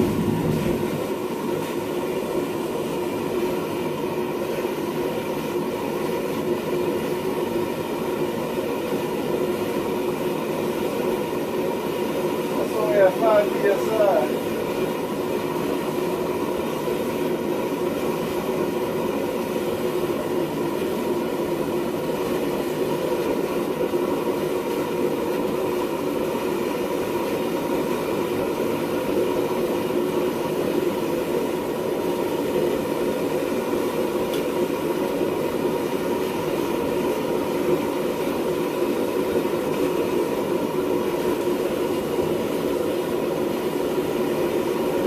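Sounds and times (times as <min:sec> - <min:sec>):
gas forge burners roaring: 0:00.0 - 0:45.0.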